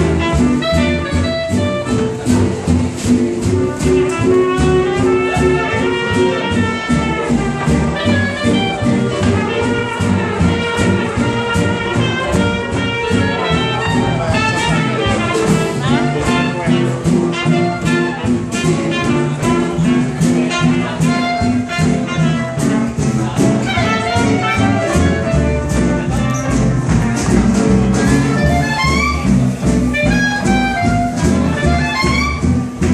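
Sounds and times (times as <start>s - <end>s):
clarinet melody: 0.0s - 32.9s
swing jazz band: 0.0s - 32.9s.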